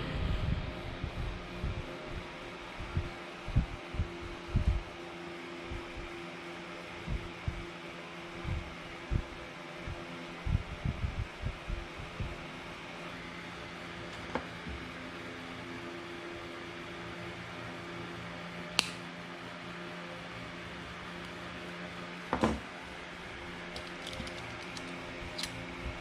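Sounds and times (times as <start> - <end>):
steady hum with faint tone: 0.0 - 26.0.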